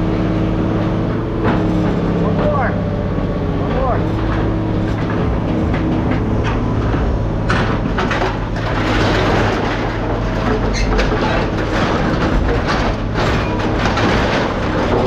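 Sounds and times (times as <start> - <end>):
heavy machine engine running: 0.0 - 15.0
metal rattling and clanking: 0.0 - 15.0.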